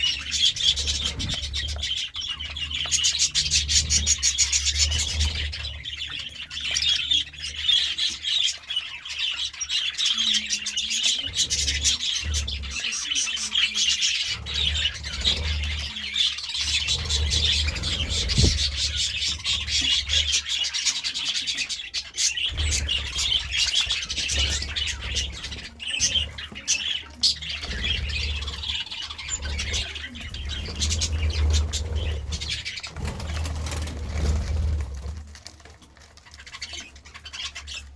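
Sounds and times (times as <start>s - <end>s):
budgerigars chirping and chattering: 0.0s - 37.9s.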